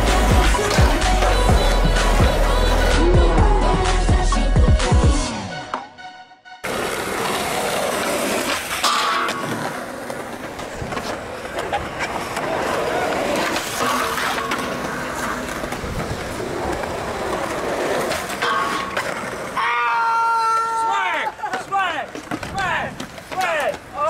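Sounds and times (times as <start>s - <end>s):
skateboard clacks: 0.0s - 2.8s, 6.7s - 24.0s
skateboard wheels rolling on concrete: 0.0s - 5.1s, 6.6s - 24.0s.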